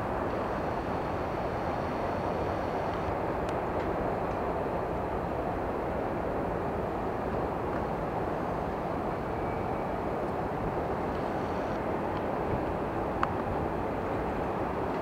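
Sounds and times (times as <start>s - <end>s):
distant jet engines roaring: 0.0s - 15.0s.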